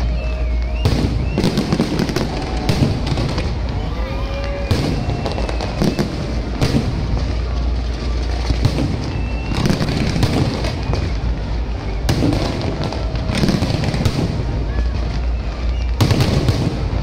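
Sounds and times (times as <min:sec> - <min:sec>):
crackle of fireworks bursting: 0:00.0 - 0:17.0
loud firework bangs: 0:00.0 - 0:17.0.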